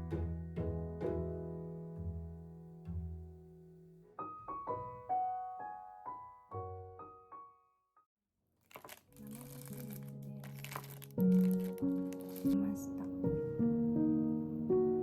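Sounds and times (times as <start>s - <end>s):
piano music: 0.0s - 7.7s, 8.9s - 15.0s.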